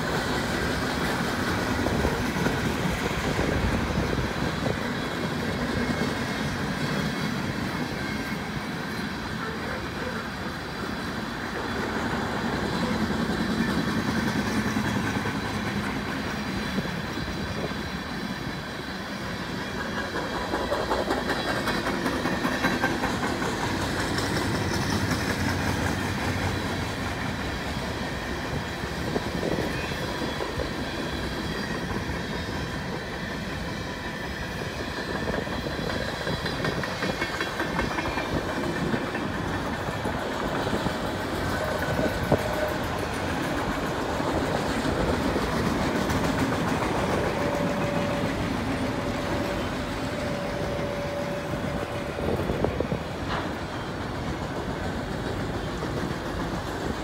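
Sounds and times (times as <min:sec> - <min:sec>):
clickety-clack over rail joints: 0:00.0 - 0:57.0
freight train rolling on rails: 0:00.0 - 0:57.0.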